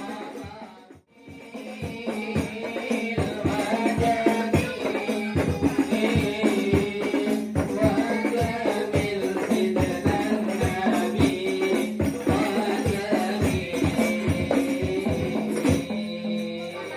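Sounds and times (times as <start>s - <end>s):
frame drums beating: 0.0s - 16.6s
voices singing: 0.0s - 16.9s.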